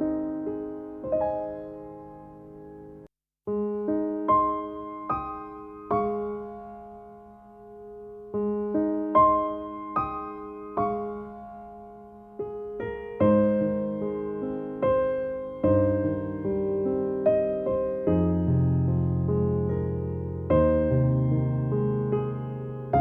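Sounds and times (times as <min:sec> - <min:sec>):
calm piano music: 0:00.0 - 0:23.0.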